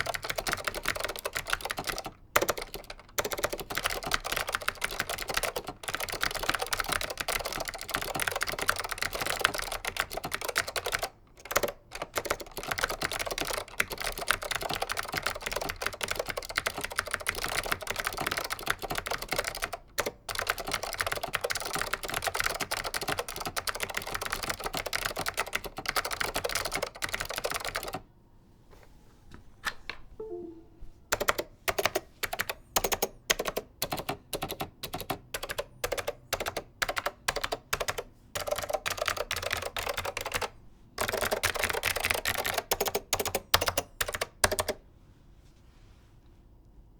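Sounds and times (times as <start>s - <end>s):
clicky keyboard typing: 0.0s - 28.0s, 30.2s - 44.8s.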